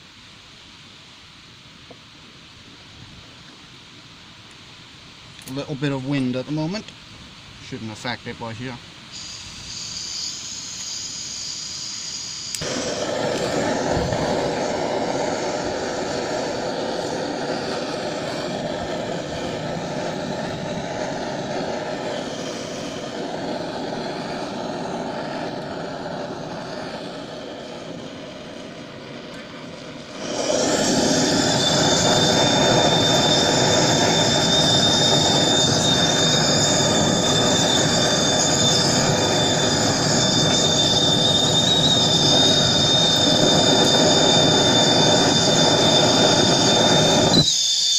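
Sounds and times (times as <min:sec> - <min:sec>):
torch flame hissing: 0:09.0 - 0:47.9
thin steady whistle: 0:09.1 - 0:47.9.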